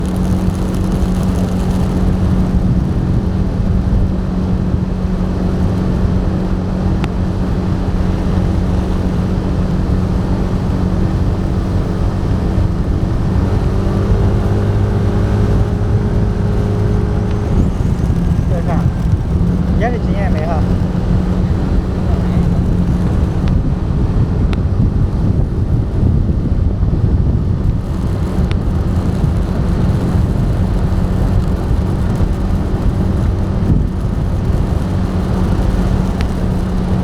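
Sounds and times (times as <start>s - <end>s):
road noise: 0.0s - 37.0s
vehicle engine drone: 0.0s - 37.0s.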